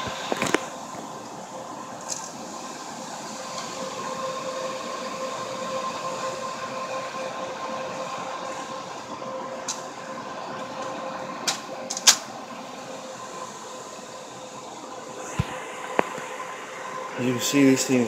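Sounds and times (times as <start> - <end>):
server cooling fans whirring: 0.0 - 18.0.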